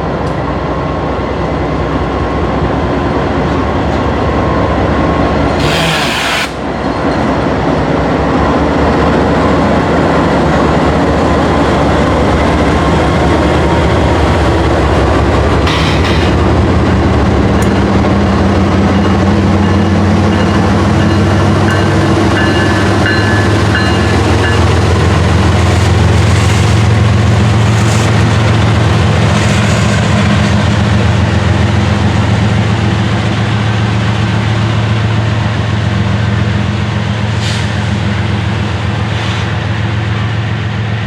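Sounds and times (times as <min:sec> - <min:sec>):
locomotive engine drone: 0:00.0 - 0:41.0
train cars rolling on rails: 0:00.0 - 0:41.0.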